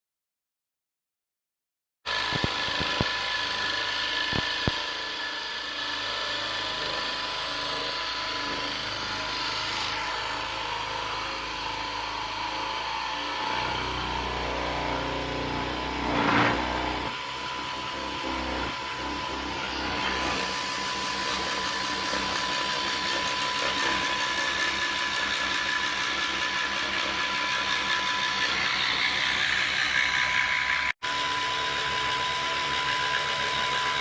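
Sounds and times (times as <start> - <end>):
cnc router milling whine: 2.1 - 34.0.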